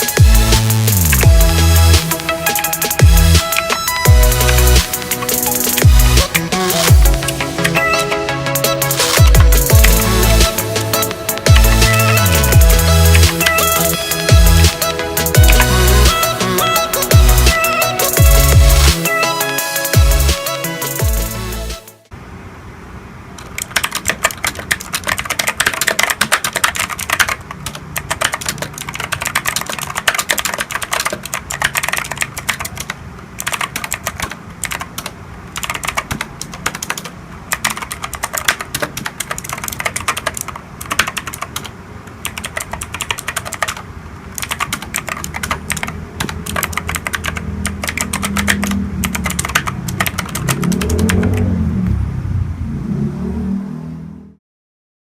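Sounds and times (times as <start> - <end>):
mechanical keyboard typing: 0.0 - 20.1, 23.4 - 51.5.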